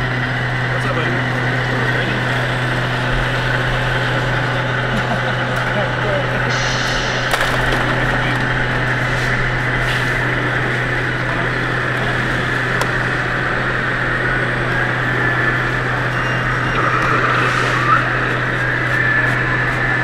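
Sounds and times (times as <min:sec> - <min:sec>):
hall hum: 0:00.0 - 0:20.0
simulated diesel truck engine: 0:00.0 - 0:20.0.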